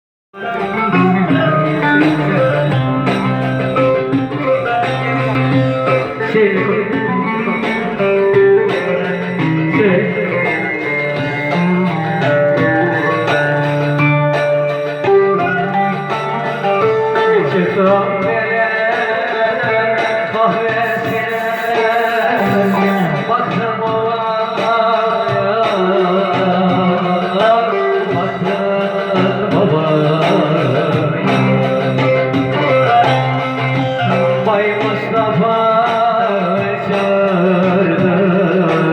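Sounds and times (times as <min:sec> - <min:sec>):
plucked electric lute folk melody: 0:00.4 - 0:38.9.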